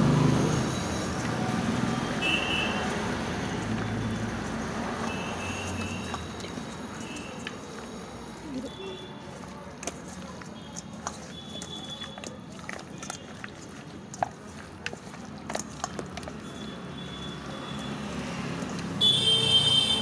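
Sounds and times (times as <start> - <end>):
hand squelching food in bowl: 0.4 - 19.1.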